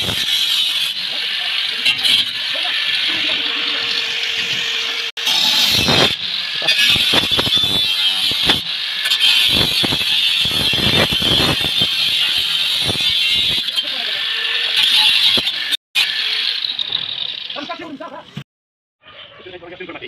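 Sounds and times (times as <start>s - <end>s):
angle grinder cutting metal: 0.0s - 17.6s.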